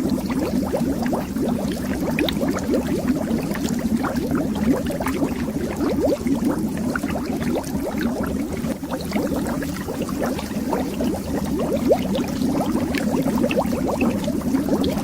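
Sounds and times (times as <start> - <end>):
bubbles rising underwater: 0.0 - 15.0
low watery hiss: 0.0 - 15.0.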